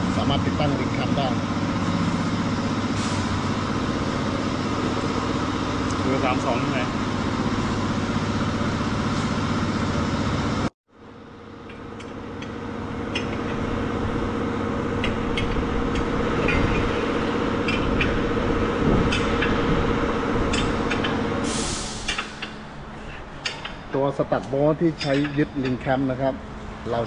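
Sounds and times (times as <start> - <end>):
engine-like hum: 0.0 - 27.0
workshop hum with held tone: 0.0 - 27.0.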